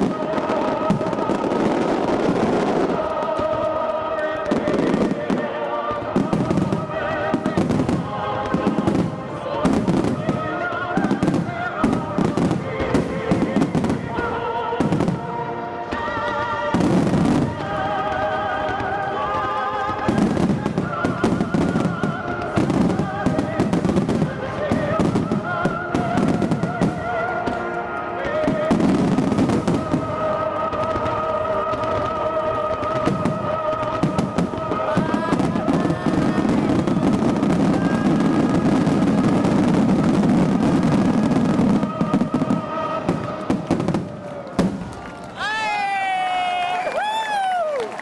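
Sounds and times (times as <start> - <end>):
music over loudspeakers: 0.0 - 44.7
fireworks bangs: 0.0 - 48.0.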